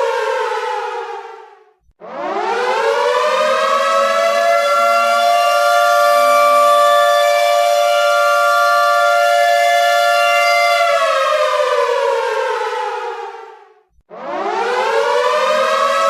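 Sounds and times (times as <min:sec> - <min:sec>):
air raid siren winding down: 0:02.1 - 0:13.3, 0:14.4 - 0:16.0.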